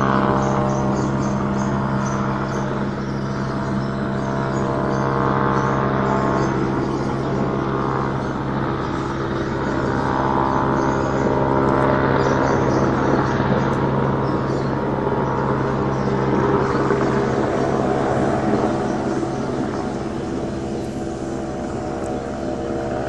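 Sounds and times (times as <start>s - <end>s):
helicopter tonal drone: 0.0s - 23.0s
rushing rotor noise: 0.0s - 23.0s.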